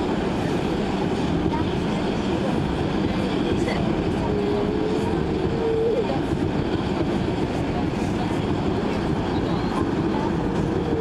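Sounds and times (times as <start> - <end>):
subway car whine: 0.0 - 11.0
subway wheels rumbling on rails: 0.0 - 11.0.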